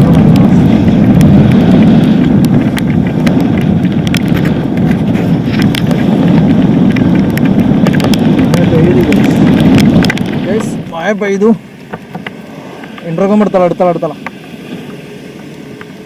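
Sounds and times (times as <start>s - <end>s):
road noise: 0.0s - 16.0s
wind rushing on microphone: 0.0s - 16.0s.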